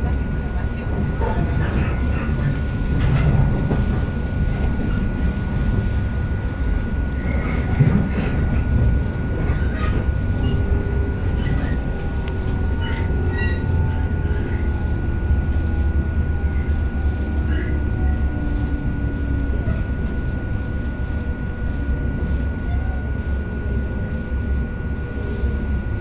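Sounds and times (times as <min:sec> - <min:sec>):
train wheels rumbling on track: 0:00.0 - 0:26.0
train whine falling in pitch: 0:03.2 - 0:26.0.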